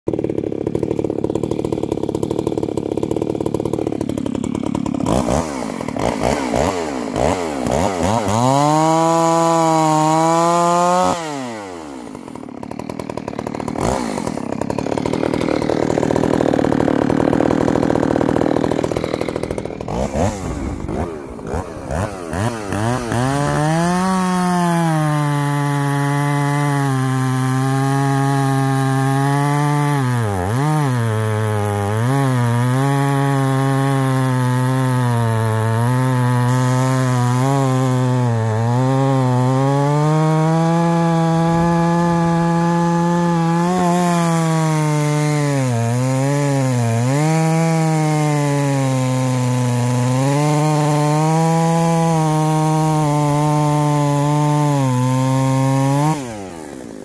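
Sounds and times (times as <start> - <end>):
chainsaw cutting log: 0.1 - 57.0
chainsaw revving: 0.1 - 57.0.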